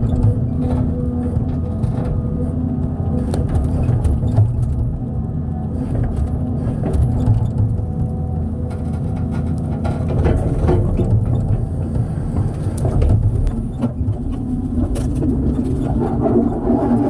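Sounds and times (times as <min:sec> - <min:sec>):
diesel machinery engine running: 0:00.0 - 0:17.0.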